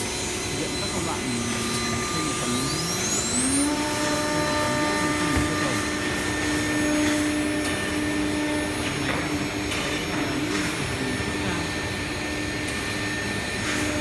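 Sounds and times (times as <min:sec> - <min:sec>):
cnc router spindle whine: 0:00.0 - 0:14.0.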